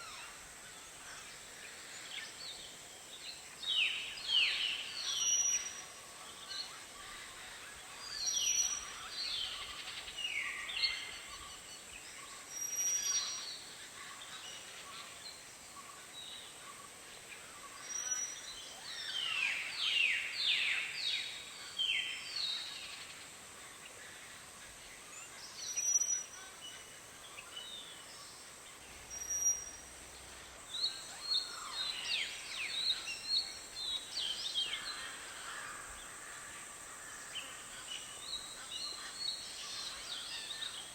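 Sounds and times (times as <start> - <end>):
faint steady high hiss: 0.0 - 40.9.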